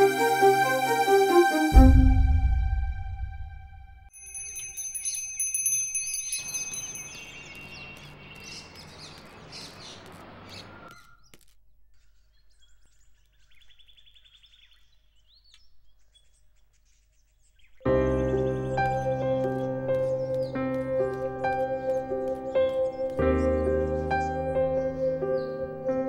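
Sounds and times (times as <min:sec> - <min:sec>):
birds chirping: 0:04.4 - 0:26.0.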